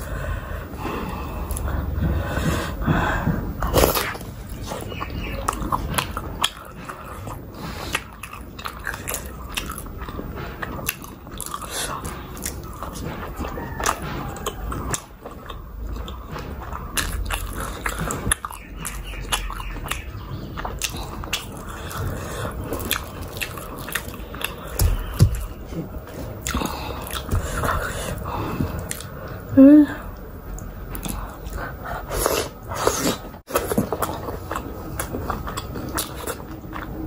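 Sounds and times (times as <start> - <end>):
biting and chewing dumplings: 0.0 - 29.5, 30.1 - 37.0.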